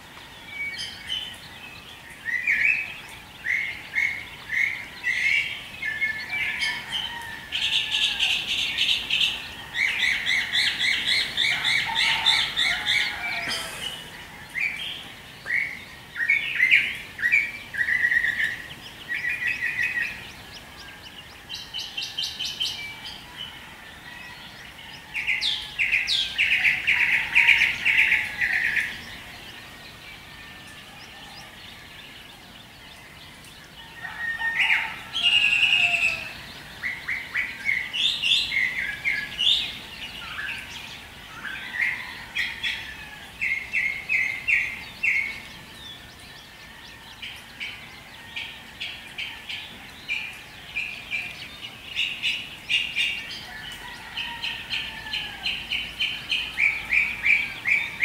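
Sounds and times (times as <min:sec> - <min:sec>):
songbirds chirping trills: 0:00.0 - 0:58.0.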